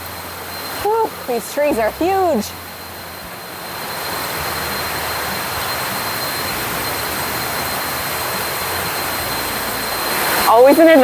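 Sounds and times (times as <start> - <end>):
heavy rain falling: 0.0 - 11.0
thin steady high tone: 0.0 - 11.0.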